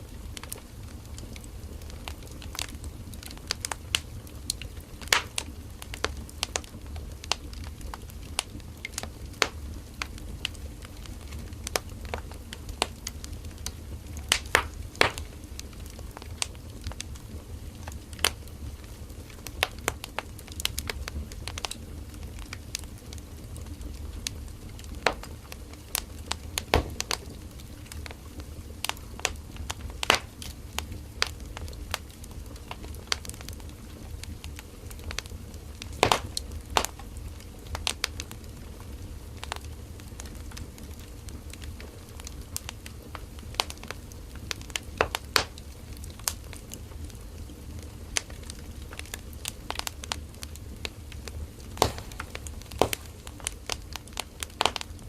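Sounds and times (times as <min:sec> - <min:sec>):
fire flames rumbling: 0:00.0 - 0:55.0
wood crackling and popping: 0:00.0 - 0:55.0.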